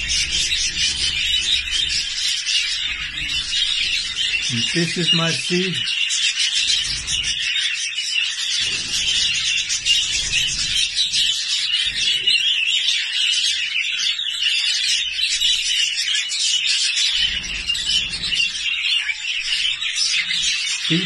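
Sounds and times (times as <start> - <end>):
budgerigars chattering: 0.0 - 21.0.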